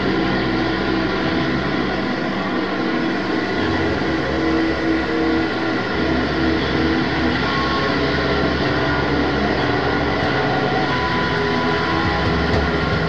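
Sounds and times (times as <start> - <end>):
experimental noise music drone: 0.0 - 13.0.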